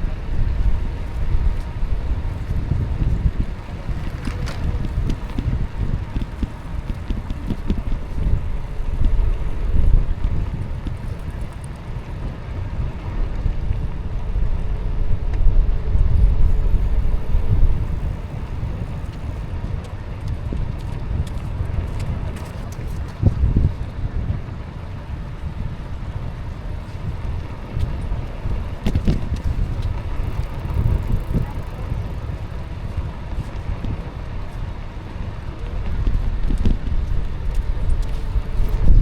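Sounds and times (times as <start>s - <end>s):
bike riding noise: 0.0s - 39.0s
wind buffeting microphone: 0.0s - 39.0s.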